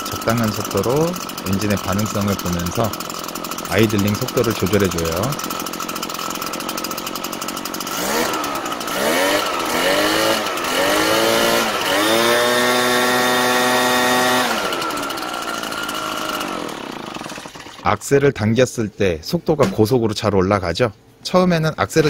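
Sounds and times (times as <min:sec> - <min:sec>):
leaf blower engine revving: 0:00.0 - 0:18.2.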